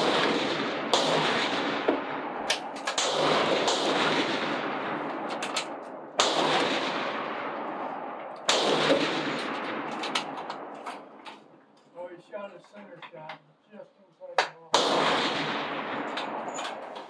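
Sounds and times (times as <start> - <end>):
faint shots or clicks: 0.0 - 11.5, 14.4 - 17.0
rifle shots echoing: 0.0 - 11.5, 14.7 - 17.0.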